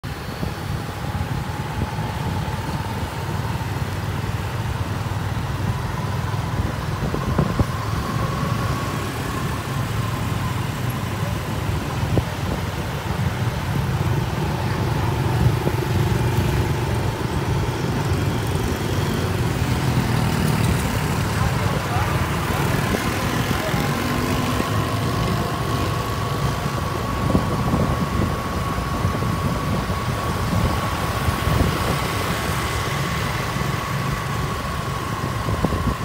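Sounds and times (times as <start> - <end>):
road noise: 0.0 - 36.0
motorbike engine rumble: 0.1 - 36.0.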